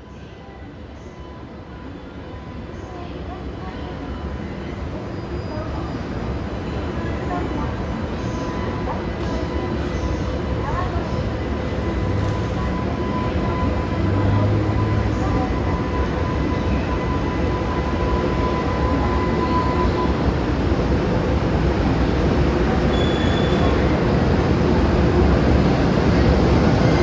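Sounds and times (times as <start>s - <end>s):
electric locomotive rumbling: 4.7s - 27.0s.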